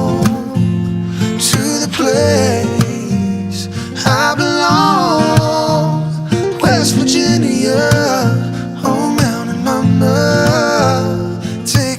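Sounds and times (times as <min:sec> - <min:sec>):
acoustic guitar: 0:00.0 - 0:11.9
person singing: 0:00.0 - 0:11.9.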